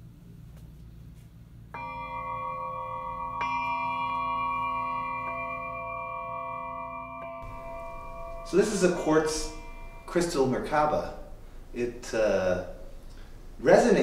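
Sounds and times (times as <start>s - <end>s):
crystal struck with mallet ringing: 1.8s - 13.8s.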